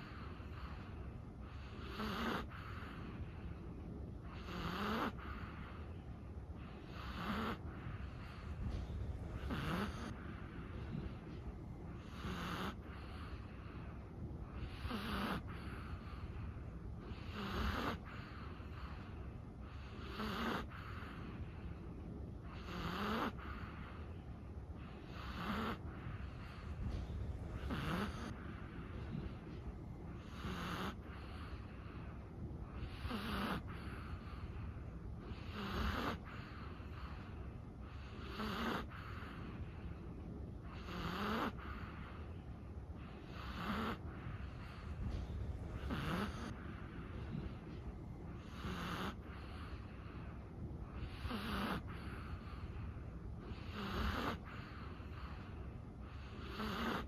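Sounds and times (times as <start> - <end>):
dog snoring softly: 0.0 - 57.0.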